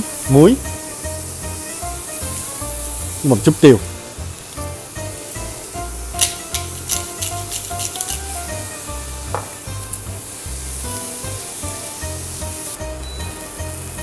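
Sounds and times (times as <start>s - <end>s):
vegetables sizzling in frying pan: 0.0s - 14.0s.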